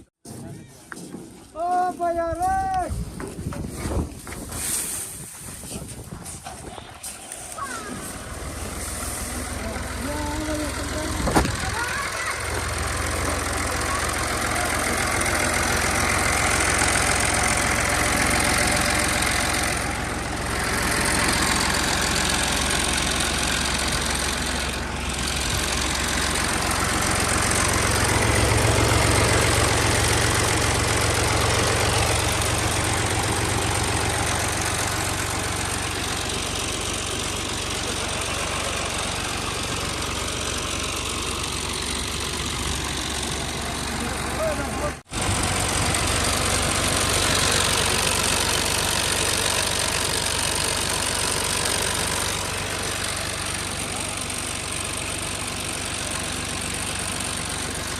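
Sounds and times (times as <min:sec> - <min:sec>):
tractor engine running: 0:00.0 - 0:57.9
thresher rushing clatter: 0:02.9 - 0:57.9.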